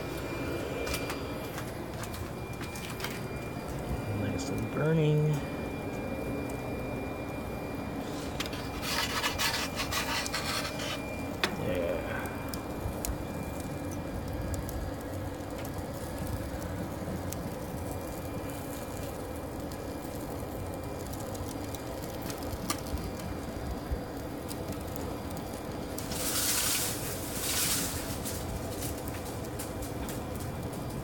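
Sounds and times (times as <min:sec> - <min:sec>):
fire burning in oven: 0:00.0 - 0:31.0.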